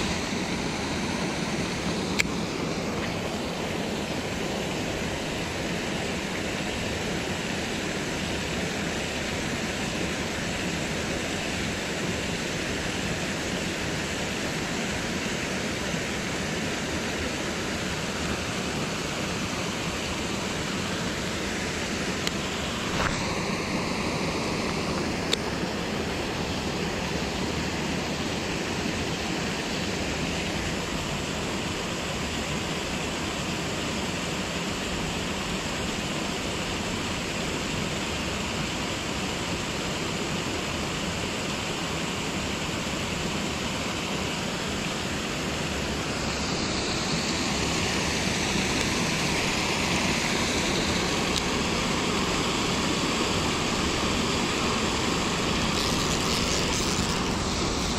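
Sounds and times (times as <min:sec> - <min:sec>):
flowing river water: 0:00.0 - 0:57.9.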